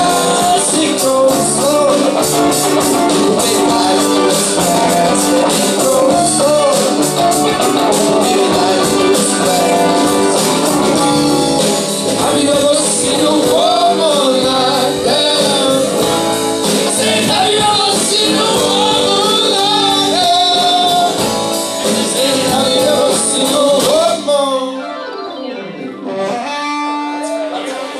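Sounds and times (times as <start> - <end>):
live rock band playing: 0.0 - 27.9.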